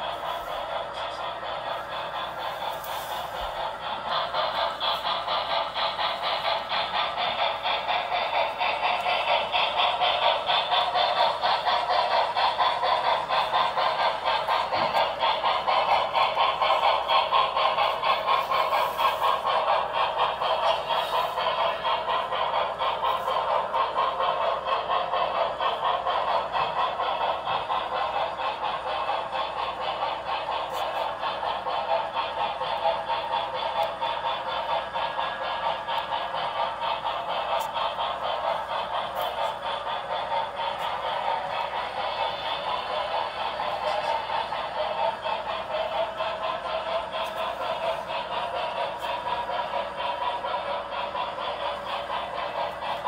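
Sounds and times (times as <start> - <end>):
model train rattling on track: 0.0 - 53.0.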